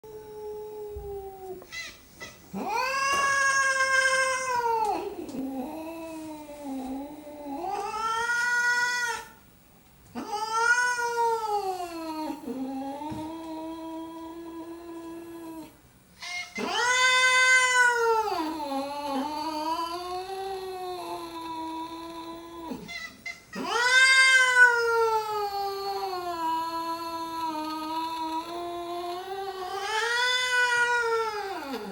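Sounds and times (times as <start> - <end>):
cats yowling: 0.1 - 9.4, 10.2 - 31.9.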